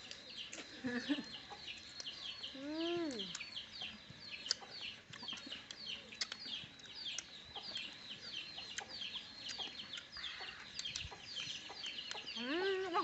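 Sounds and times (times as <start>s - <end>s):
chicks peeping: 0.0s - 13.0s
people eating: 0.0s - 13.0s.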